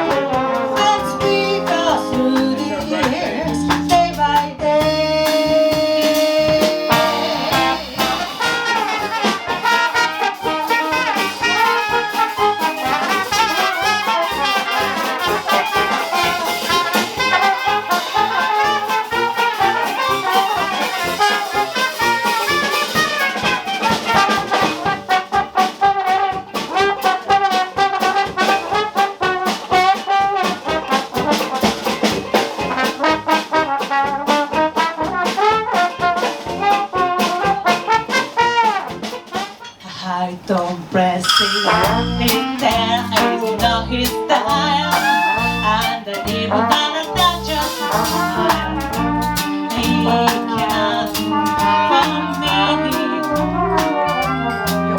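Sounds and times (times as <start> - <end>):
jazz band playing: 0.0 - 39.9, 40.9 - 54.9.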